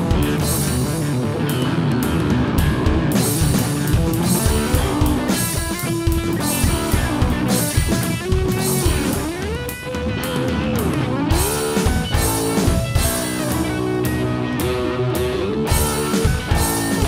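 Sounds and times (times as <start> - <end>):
bass guitar: 0.0 - 17.0
drum kit with cymbal hits: 0.0 - 17.0
electric guitar lead bending: 0.0 - 17.0.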